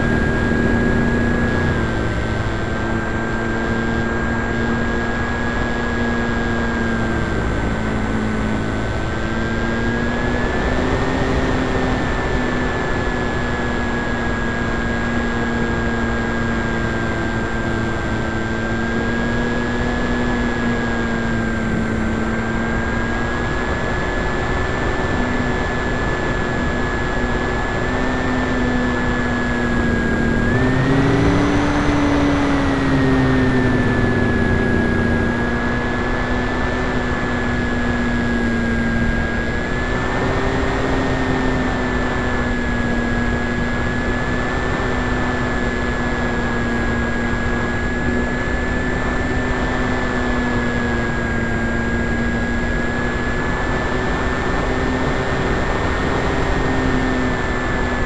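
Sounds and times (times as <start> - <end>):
electric model plane motor whine: 0.0 - 58.0.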